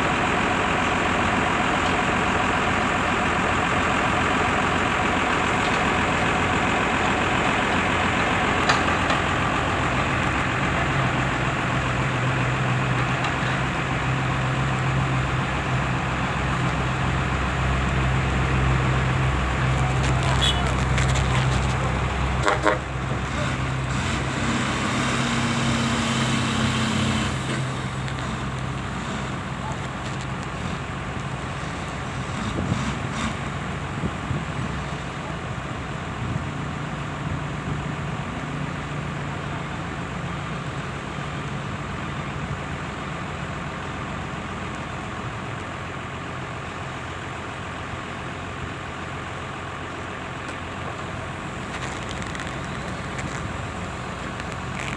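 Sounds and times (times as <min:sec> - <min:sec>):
heavy diesel engines running: 0:00.0 - 0:54.9.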